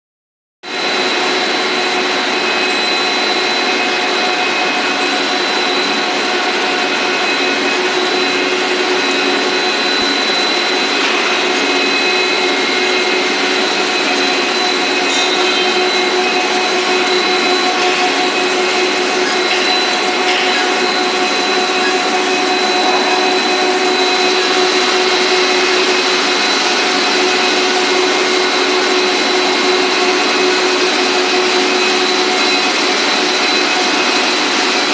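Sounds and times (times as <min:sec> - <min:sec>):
factory machinery running: 0:00.7 - 0:34.9
machine hums and whines: 0:00.7 - 0:34.9.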